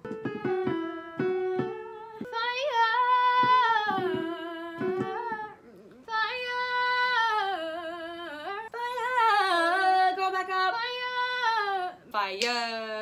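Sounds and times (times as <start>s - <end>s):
girl singing vocal riff: 0.2s - 13.0s
woman singing: 0.2s - 13.0s.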